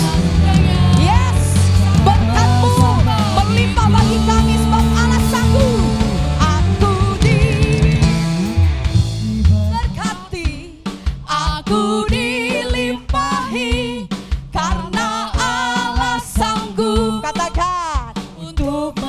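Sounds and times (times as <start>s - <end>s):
person singing with vibrato: 0.0s - 8.6s, 9.7s - 19.0s
live band playing: 0.0s - 17.7s.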